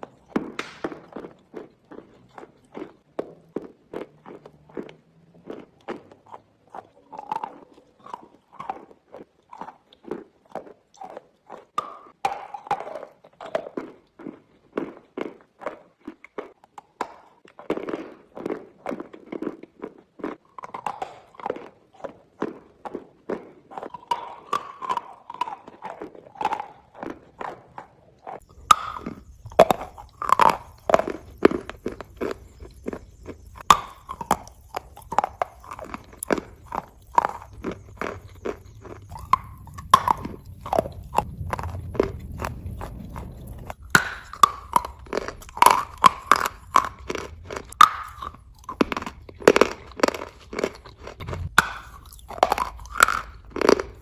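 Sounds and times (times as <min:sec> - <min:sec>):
chewing chalk stone crunches: 0:00.0 - 0:54.0.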